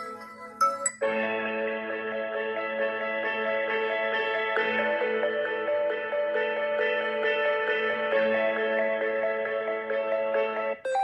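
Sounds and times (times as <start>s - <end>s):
ambient ringtone melody: 0.0s - 11.0s.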